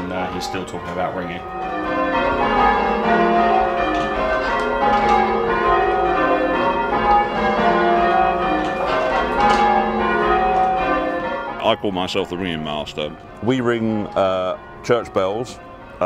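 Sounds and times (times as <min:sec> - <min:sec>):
church bells change ringing: 0:00.0 - 0:16.0.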